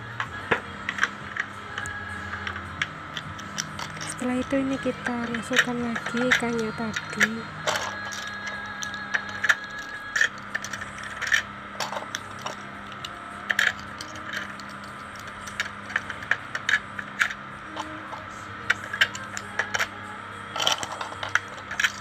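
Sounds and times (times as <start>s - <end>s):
plastic toy clicks and clacks: 0.5s - 22.0s.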